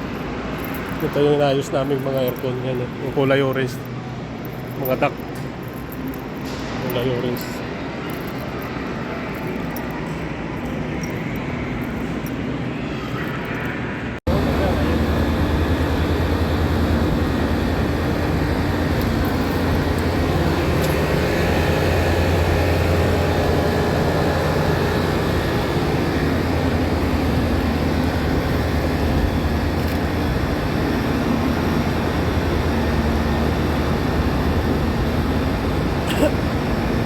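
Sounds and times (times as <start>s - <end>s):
air conditioning unit droning: 0.0s - 37.0s.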